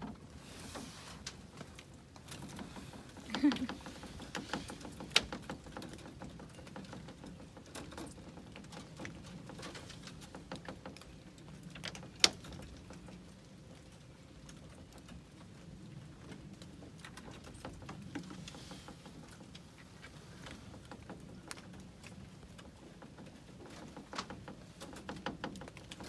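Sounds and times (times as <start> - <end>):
rabbit paws pattering on wire mesh: 0.0 - 26.0.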